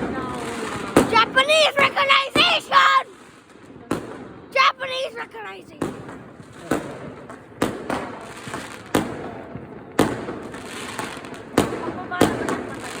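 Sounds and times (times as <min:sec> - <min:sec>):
firecrackers crackling: 0:00.0 - 0:13.0
fireworks bangs: 0:00.0 - 0:13.0.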